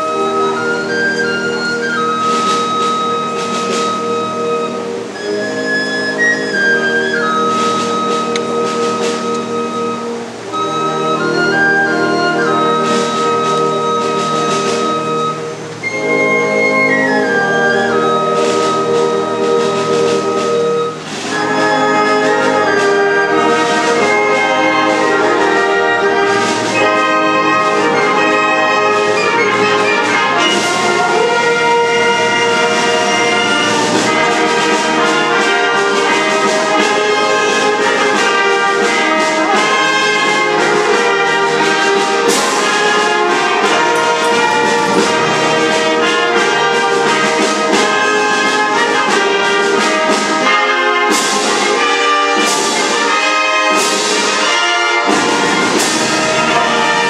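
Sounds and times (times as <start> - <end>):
wind band playing: 0.0 - 57.0.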